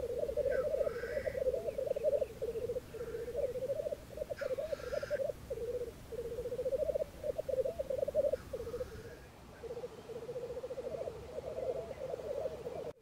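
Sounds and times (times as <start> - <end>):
grouse bubbling cooing chorus: 0.0 - 13.0
grouse hissing call: 0.0 - 13.0.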